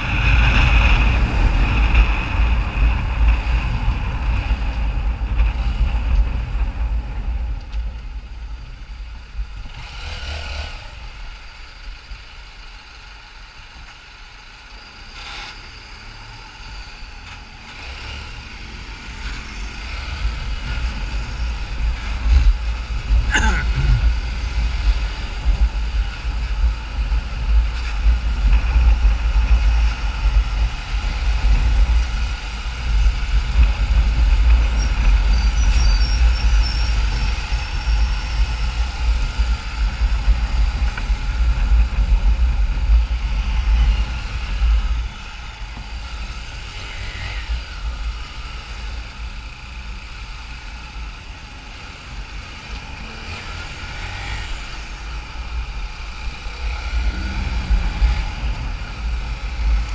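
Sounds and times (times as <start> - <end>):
wind rumble on microphone: 0.0 - 10.2, 18.6 - 51.2, 53.8 - 59.9
motorcycle engine: 0.0 - 59.9.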